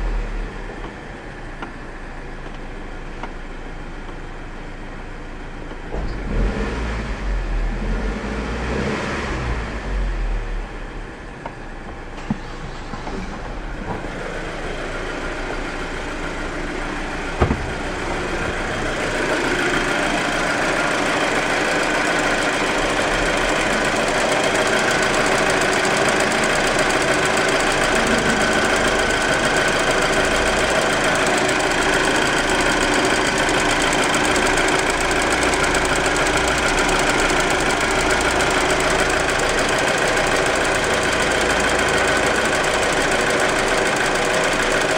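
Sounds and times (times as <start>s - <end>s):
car engine knocking: 0.6s - 6.6s, 11.2s - 44.9s.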